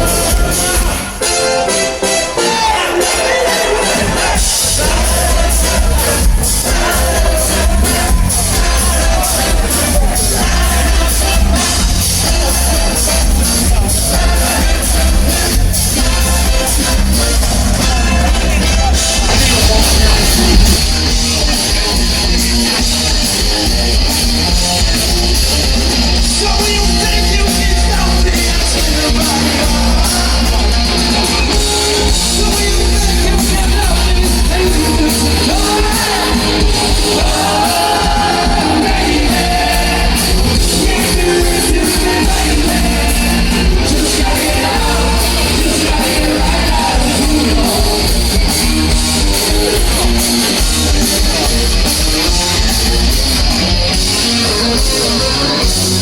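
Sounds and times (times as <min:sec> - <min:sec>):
heavy bass: 0:00.0 - 0:01.7, 0:02.6 - 0:56.0
person singing: 0:00.0 - 0:23.5, 0:26.2 - 0:52.6
electric guitar: 0:00.0 - 0:56.0
rock band playing: 0:00.0 - 0:56.0.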